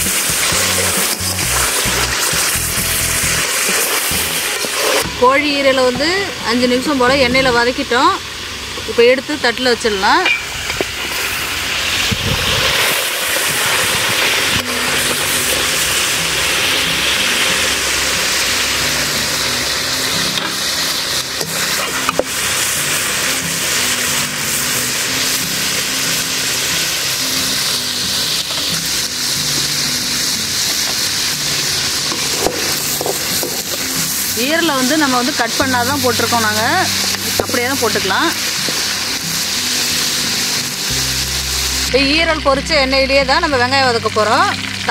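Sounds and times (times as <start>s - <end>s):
hot oil sizzling in a pan: 0.0s - 44.9s.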